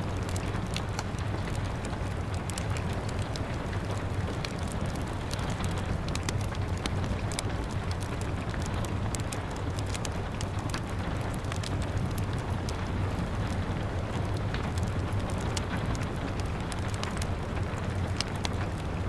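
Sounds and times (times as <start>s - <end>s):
steady rain hiss: 0.0s - 19.0s
wood fire crackling: 0.0s - 19.0s.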